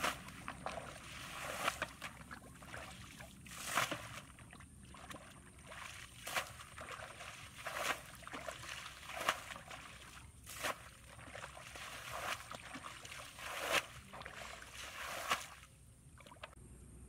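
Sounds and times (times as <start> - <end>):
bucket splashing water: 0.0 - 16.6
water trickling: 0.0 - 16.6.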